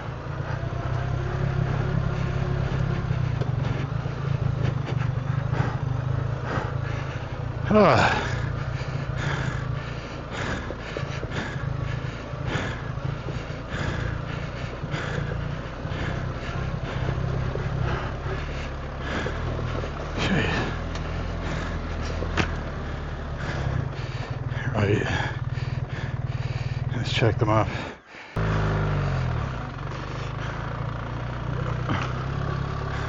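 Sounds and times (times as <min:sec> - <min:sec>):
motorcycle engine running at low revs: 0:00.0 - 0:33.0.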